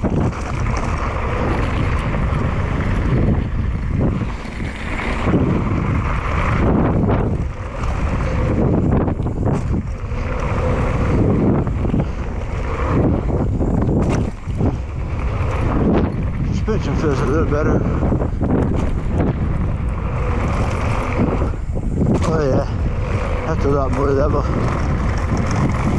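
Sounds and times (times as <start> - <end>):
mountain bike rumbling and rattling: 0.0 - 25.9
wind buffeting microphone: 0.0 - 25.9.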